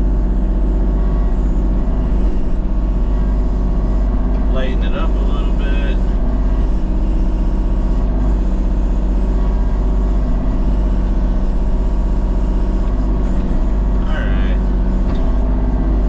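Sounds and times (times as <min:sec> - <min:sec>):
machine engine rumbling: 0:00.0 - 0:16.0.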